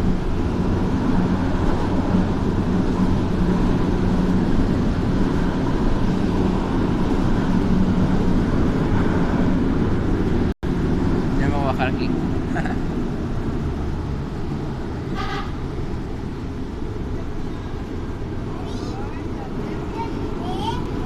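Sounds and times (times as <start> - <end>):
light-rail train rumbling: 0.0 - 21.0.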